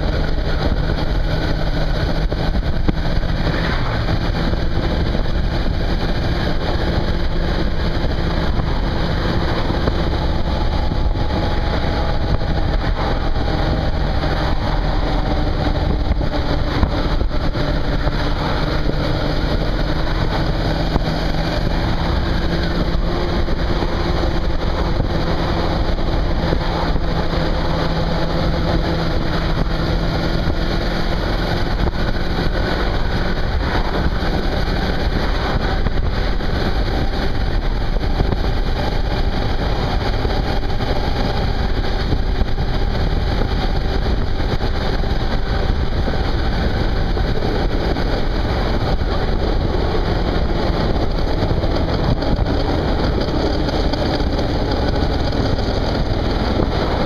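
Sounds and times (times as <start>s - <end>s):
motorcycle engine cruising: 0.0s - 57.0s
wind rushing over microphone: 0.0s - 57.0s.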